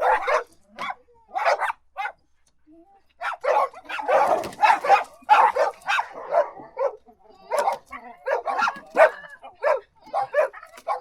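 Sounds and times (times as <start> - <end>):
dog barking: 0.0 - 2.2, 3.2 - 11.0.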